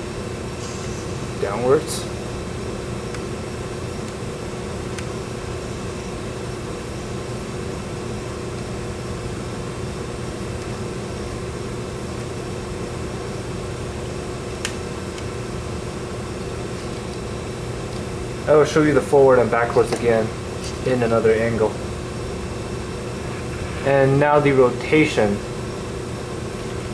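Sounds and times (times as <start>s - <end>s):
fan humming: 0.0s - 26.9s.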